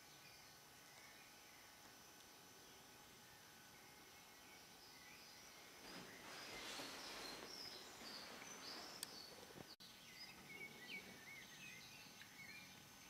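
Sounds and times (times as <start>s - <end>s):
distant birds chirping: 0.0s - 13.0s
soft hiss: 0.0s - 13.0s.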